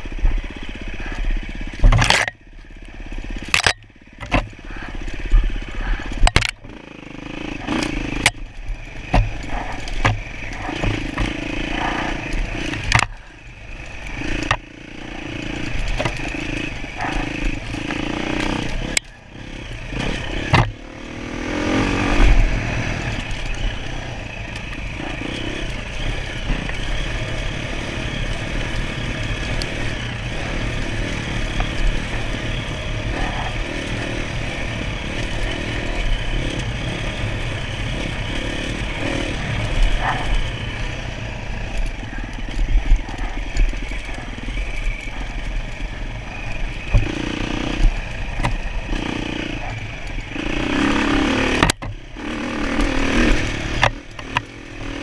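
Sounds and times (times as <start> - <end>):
dirt bike engine revving: 0.0 - 55.0
knocks and clatter from rough ground: 0.0 - 55.0.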